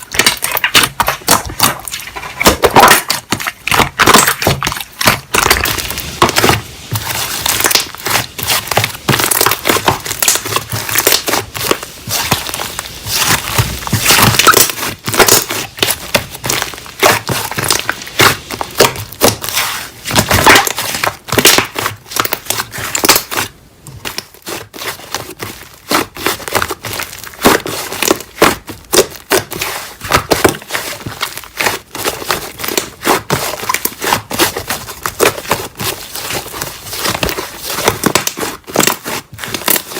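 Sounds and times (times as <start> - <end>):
slime squeezed crackling and popping: 0.0 - 39.9.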